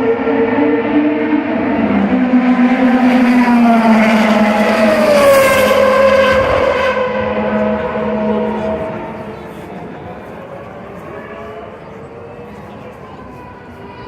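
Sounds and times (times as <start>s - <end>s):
race car engine passing by: 0.0s - 12.5s.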